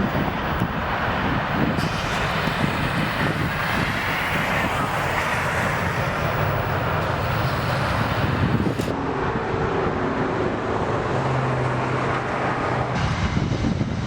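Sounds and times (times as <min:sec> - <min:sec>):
jet engines running: 0:00.0 - 0:14.0
wind on microphone: 0:00.0 - 0:14.0.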